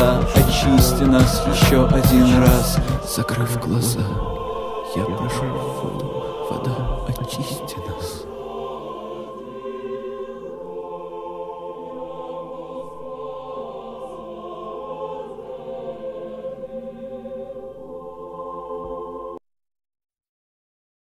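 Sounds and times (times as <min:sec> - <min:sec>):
held chords with choir voices: 0:00.0 - 0:19.4.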